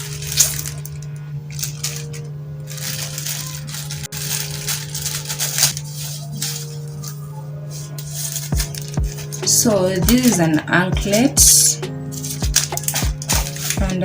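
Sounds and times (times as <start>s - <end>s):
packaging crinkling and rustling: 0.0s - 10.6s, 12.1s - 14.0s
background music: 0.0s - 14.0s.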